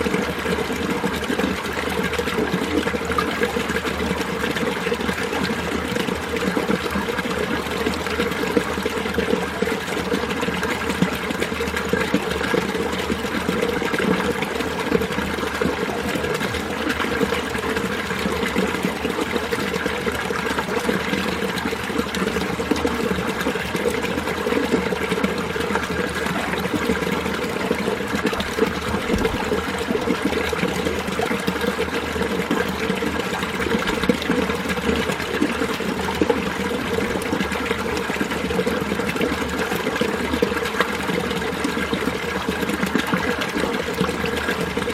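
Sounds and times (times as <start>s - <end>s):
stream flowing over rocks: 0.0s - 44.9s.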